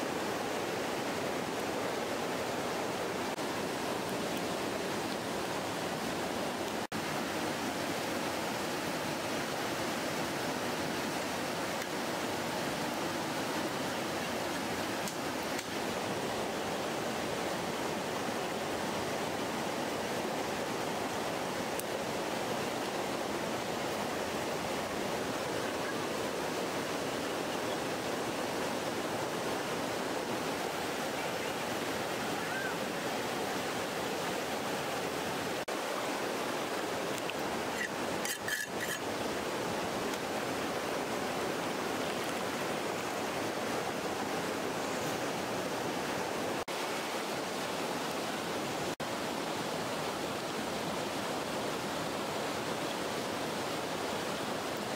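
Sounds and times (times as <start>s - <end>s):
river flowing: 0.0s - 54.9s.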